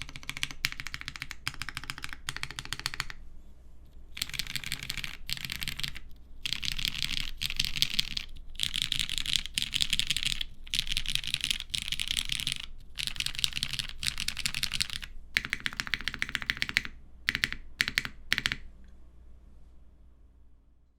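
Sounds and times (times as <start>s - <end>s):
mechanical keyboard typing: 0.0s - 3.2s, 4.1s - 18.7s.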